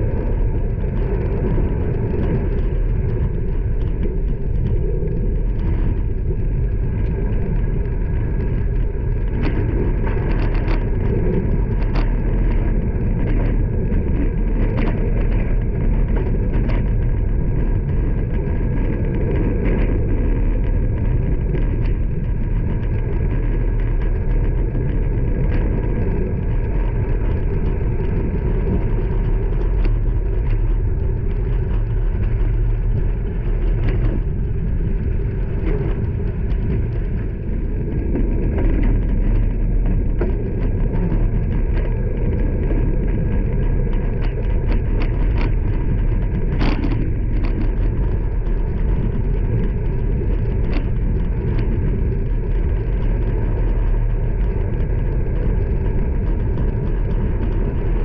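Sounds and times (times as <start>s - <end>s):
bike clicks and rattles: 0.1s - 58.0s.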